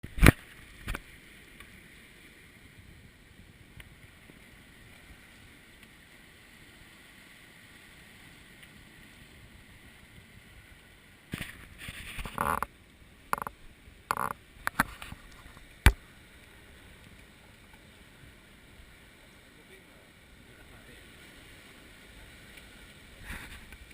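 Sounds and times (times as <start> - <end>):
hiss of water and wind: 0.0 - 23.9
water splashing: 0.0 - 23.9.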